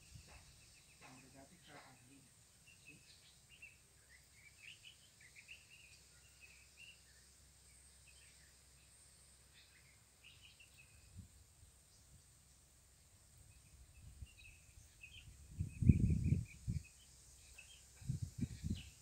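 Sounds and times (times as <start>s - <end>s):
faint high hiss: 0.0s - 19.0s
small birds chirping: 0.0s - 19.0s.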